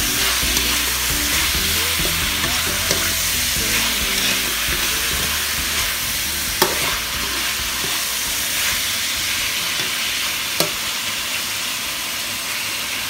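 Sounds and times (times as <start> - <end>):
food sizzling in a wok: 0.0 - 13.0
metal spatula scraping a wok: 0.1 - 10.9.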